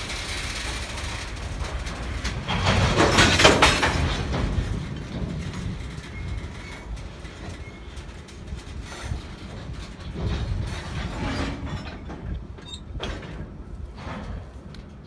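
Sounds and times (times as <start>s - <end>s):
freight cars rolling on rails: 0.0s - 15.0s.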